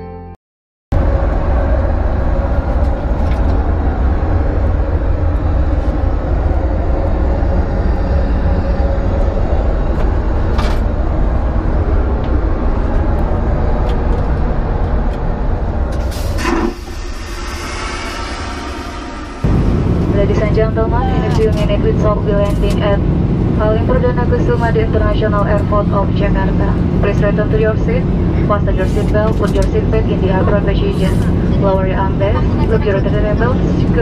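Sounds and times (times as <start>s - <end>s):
airliner cabin roar: 0.9s - 34.0s.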